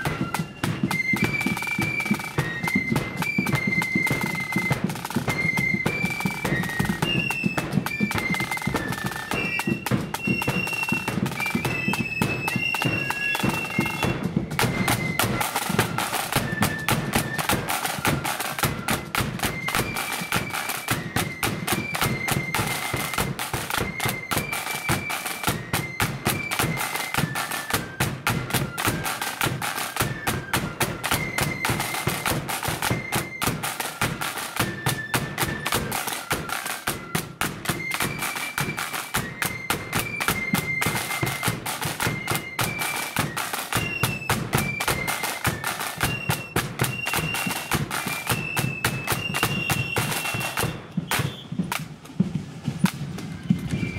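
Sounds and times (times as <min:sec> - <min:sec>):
flutes playing melody: 0:00.0 - 0:53.9
rapid side-drum strokes: 0:00.0 - 0:53.9.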